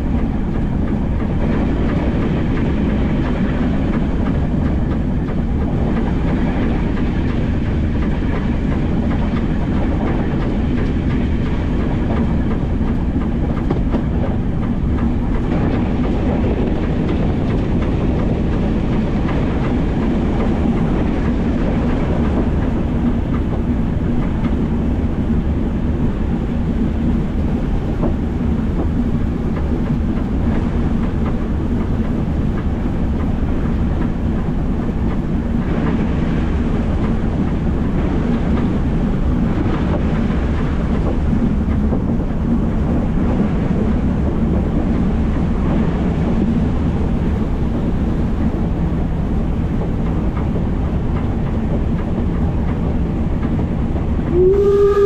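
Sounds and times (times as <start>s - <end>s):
train wheels rattling on rails: 0.0s - 55.0s.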